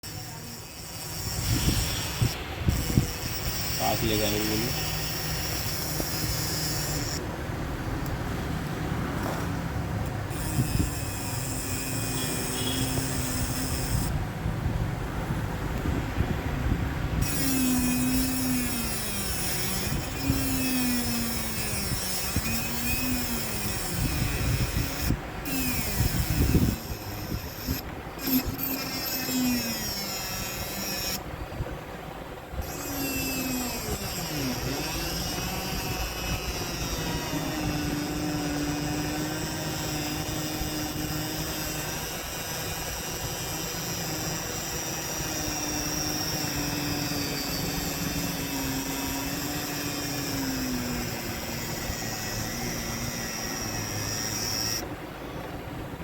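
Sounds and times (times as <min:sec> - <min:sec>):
small power tool motor: 0:00.0 - 0:07.3, 0:10.0 - 0:14.2, 0:17.1 - 0:31.7, 0:32.5 - 0:55.5.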